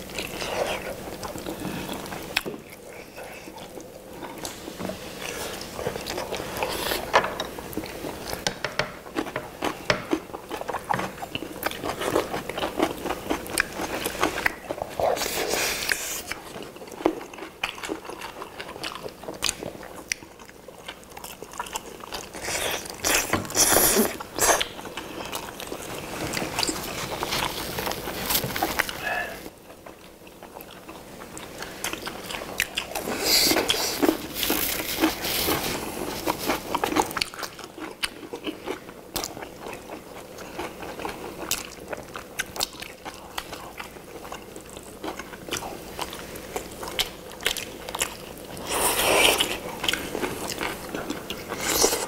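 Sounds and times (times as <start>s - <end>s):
people chewing meat: 0.0s - 52.0s.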